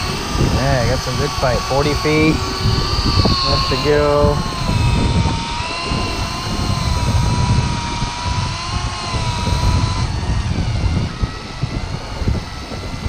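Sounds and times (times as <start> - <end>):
electric reel motor whining: 0.0 - 13.0
wind rumble on microphone: 0.0 - 13.0.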